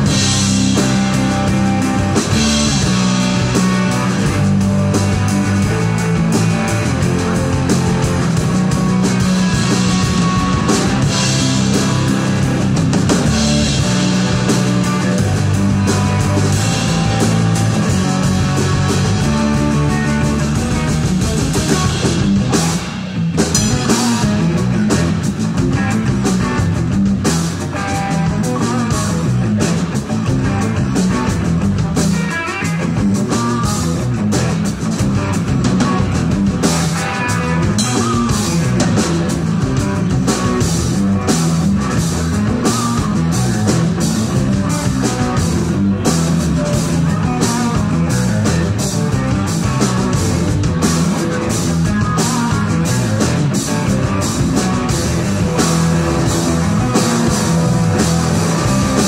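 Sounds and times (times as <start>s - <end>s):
drums keeping steady beat: 0.0s - 59.0s
live rock band playing: 0.0s - 59.0s.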